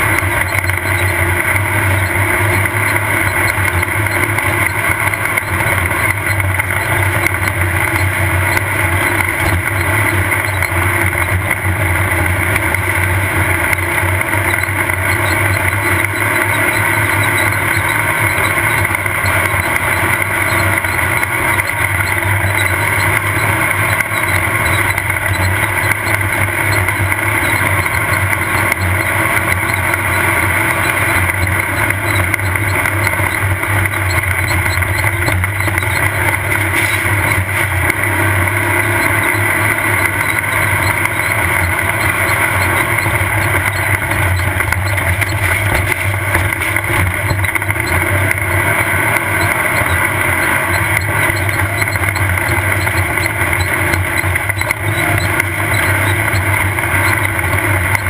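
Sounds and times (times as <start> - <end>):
race car engine running: 0.0 - 58.0
wind and terrain noise: 0.0 - 58.0.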